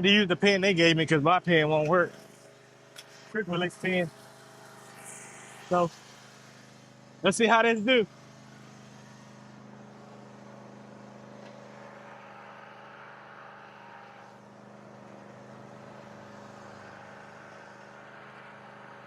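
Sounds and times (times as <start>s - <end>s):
riding lawnmower engine running: 0.0s - 19.0s.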